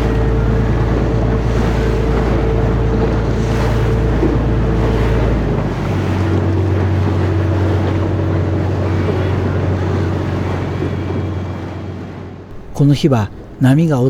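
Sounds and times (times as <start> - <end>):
boat engine humming: 0.0 - 14.0
water rushing against boat: 0.0 - 14.0.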